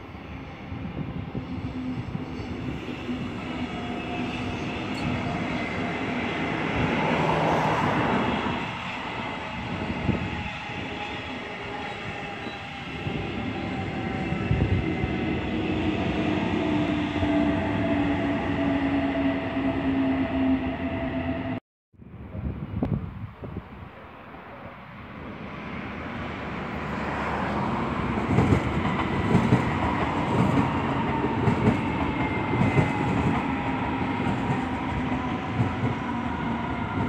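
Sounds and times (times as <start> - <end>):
train wheels rumbling on rail: 0.0 - 21.6, 25.2 - 37.0.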